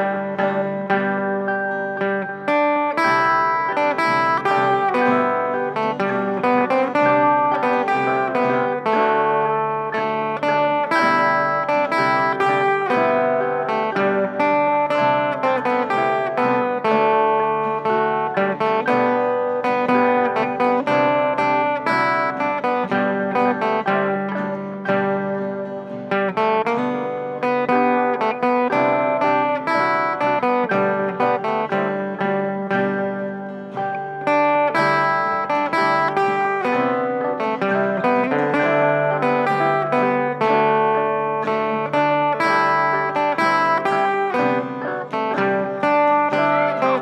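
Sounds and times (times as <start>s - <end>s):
guitars and ukulele playing folk: 0.0s - 47.0s.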